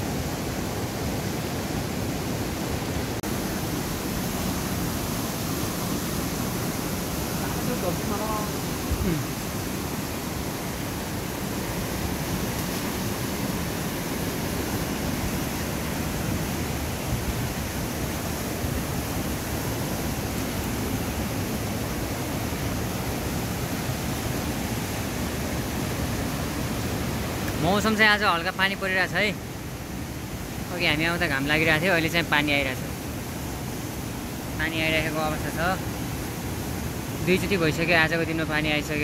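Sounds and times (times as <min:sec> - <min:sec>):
fast-flowing river rushing: 0:00.0 - 0:39.0.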